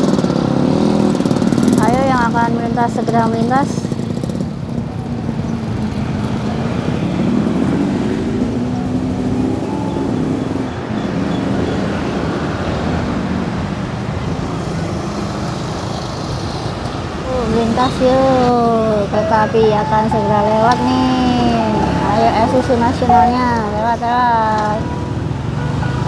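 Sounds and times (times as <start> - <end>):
motorcycles and traffic passing: 0.0 - 26.0.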